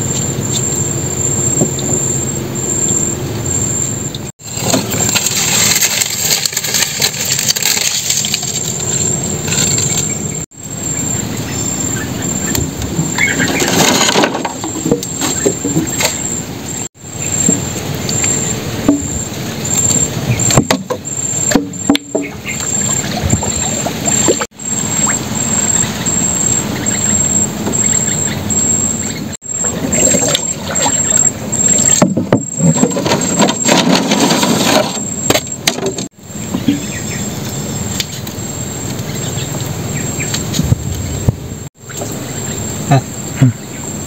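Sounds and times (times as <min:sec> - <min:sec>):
high insect chirp: 0:00.0 - 0:44.0.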